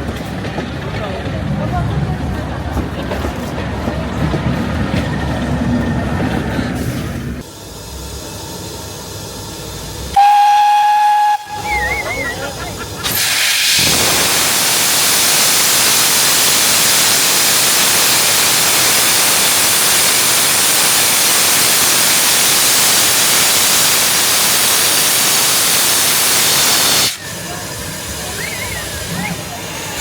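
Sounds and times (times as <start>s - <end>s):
steam locomotive hissing: 2.5s - 30.0s.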